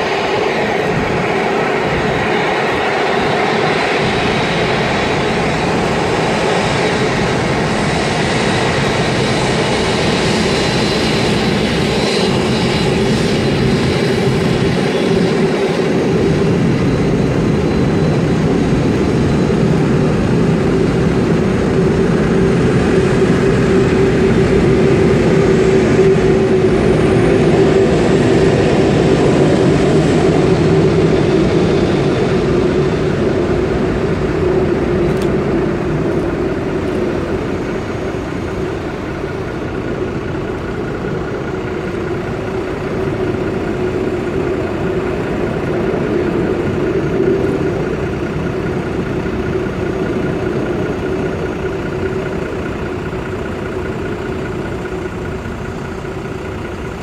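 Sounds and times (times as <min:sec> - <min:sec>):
high jet engine whine: 0:00.0 - 0:57.0
jet engines drone: 0:00.0 - 0:57.0.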